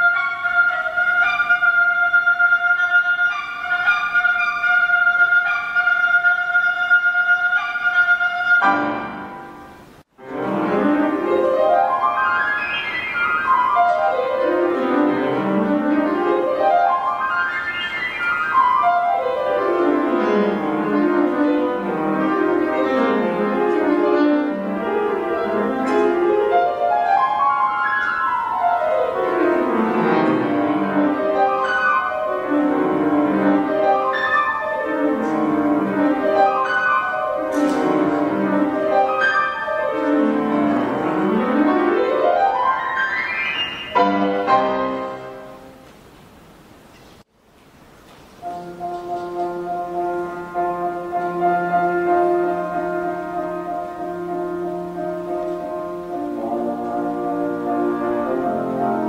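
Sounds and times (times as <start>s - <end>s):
woodwind quintet with piano: 0.0s - 46.0s, 48.4s - 59.0s.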